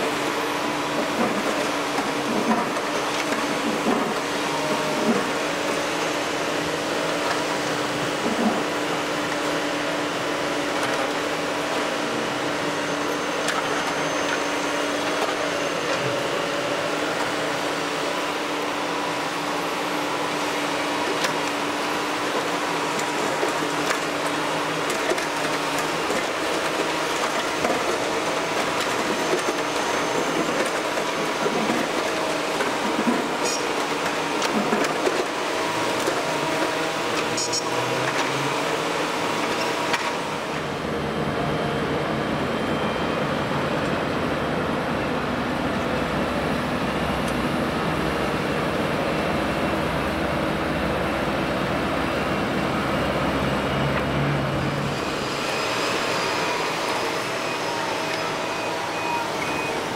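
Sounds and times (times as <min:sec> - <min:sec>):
city traffic noise: 0:00.0 - 0:59.9
diesel engines running: 0:00.0 - 0:59.9.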